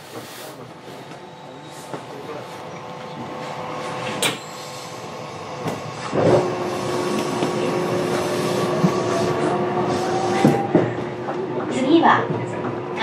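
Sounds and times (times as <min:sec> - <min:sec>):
steady train hum: 0:00.0 - 0:13.0.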